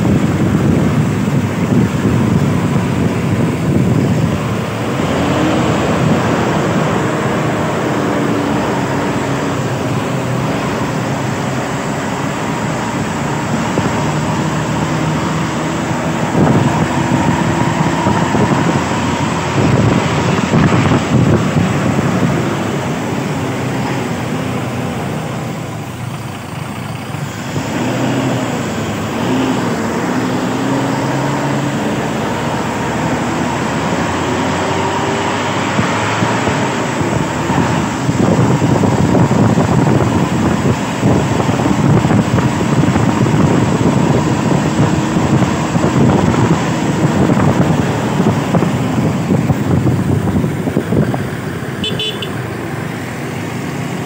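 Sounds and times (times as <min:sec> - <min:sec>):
bus engines: 0:00.0 - 0:54.0
tyre and road noise: 0:00.0 - 0:54.0.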